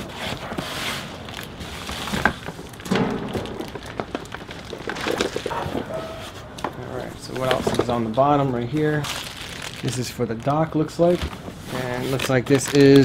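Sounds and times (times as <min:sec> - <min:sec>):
cardboard rustling and scraping: 0:00.0 - 0:09.4, 0:11.0 - 0:13.0.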